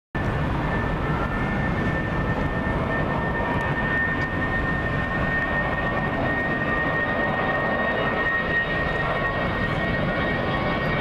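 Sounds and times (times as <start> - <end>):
distant jet engines rumbling: 0.2 - 11.0
jet engine high whine: 0.2 - 11.0.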